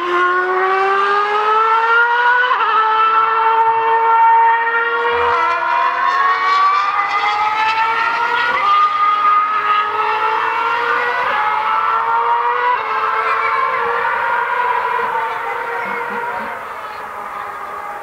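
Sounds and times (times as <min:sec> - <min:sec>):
racing car engine at high revs: 0:00.0 - 0:18.0.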